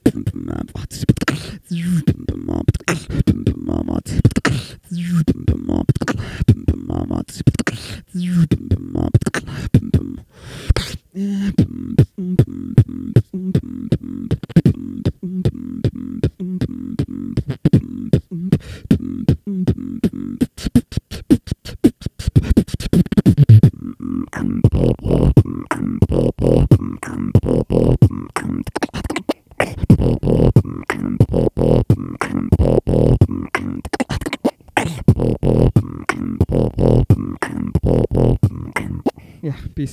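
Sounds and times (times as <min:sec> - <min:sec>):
beatboxing into microphone: 0:00.0 - 0:39.9.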